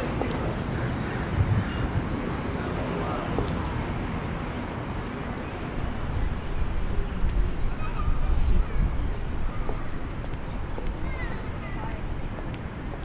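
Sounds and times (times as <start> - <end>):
low rumble of street: 0.0 - 13.0.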